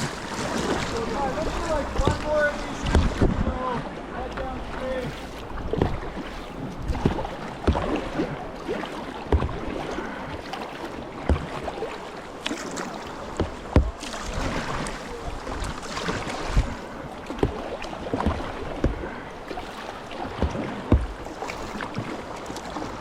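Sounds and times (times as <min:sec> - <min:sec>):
paddle splashes and knocks: 0:00.0 - 0:23.0
river current rushing: 0:00.0 - 0:23.0.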